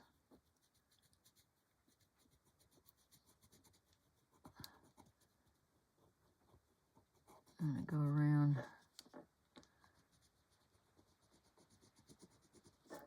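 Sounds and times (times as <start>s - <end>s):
pencil scratching on paper: 0.0s - 9.2s, 9.9s - 13.0s.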